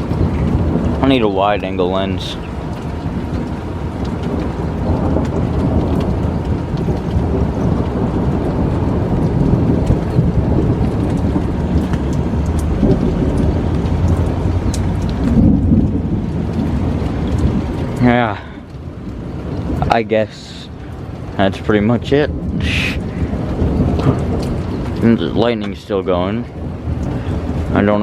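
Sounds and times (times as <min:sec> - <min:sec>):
low rumble of thunder: 0:00.0 - 0:28.0
rain falling: 0:00.0 - 0:28.0.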